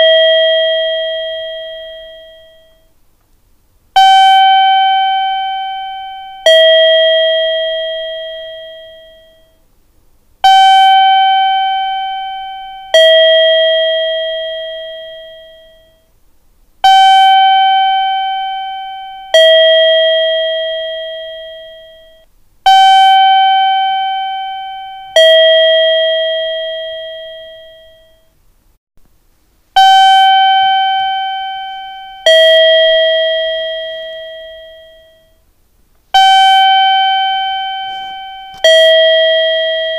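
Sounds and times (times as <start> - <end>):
two-tone electronic chime: 0.0 - 2.9, 4.0 - 9.6, 10.4 - 16.1, 16.8 - 28.4, 29.8 - 35.4, 36.2 - 39.9.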